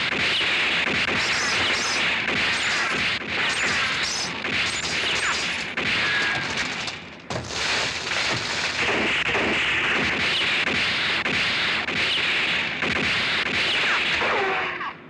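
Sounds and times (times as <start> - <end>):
gunfire: 0.0 - 14.8.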